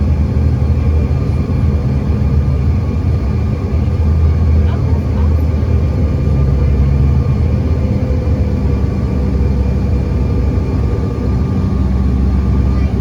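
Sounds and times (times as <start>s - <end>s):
airliner engines droning in cabin: 0.0s - 13.0s.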